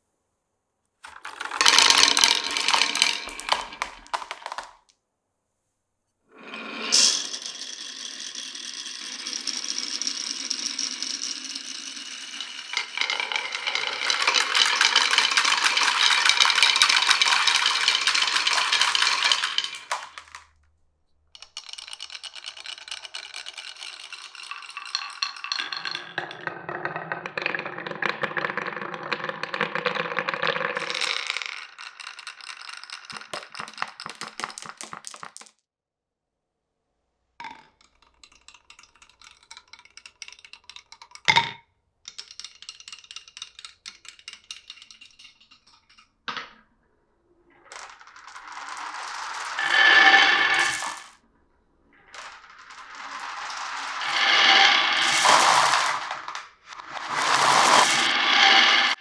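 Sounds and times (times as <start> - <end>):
marbles rolling and clattering: 1.0 - 4.9, 6.5 - 20.6, 21.4 - 35.6, 37.4 - 41.5, 42.1 - 46.7, 47.4 - 59.0.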